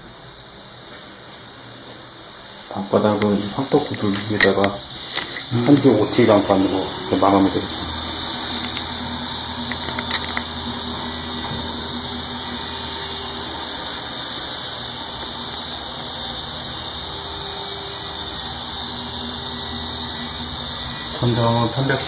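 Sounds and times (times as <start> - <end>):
high-pitched hiss: 0.0 - 22.0
faint hum: 1.6 - 22.0.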